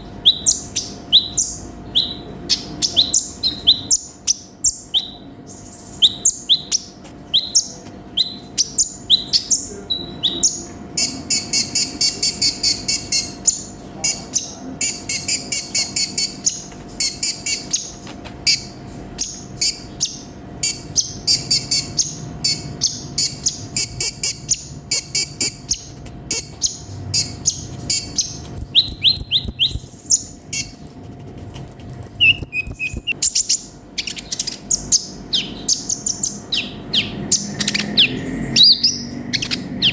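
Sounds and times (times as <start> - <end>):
bird singing chirps and trills: 0.0 - 31.1, 31.7 - 39.9.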